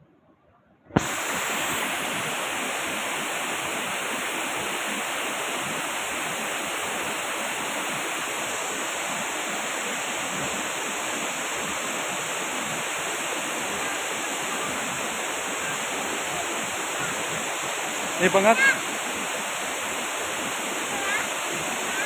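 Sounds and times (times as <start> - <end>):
waterfall roaring: 1.0 - 22.0.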